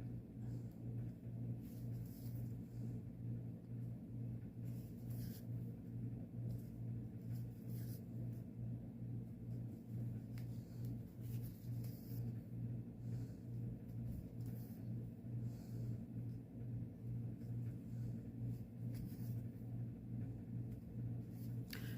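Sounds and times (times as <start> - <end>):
low pulsing hum: 0.0 - 21.9.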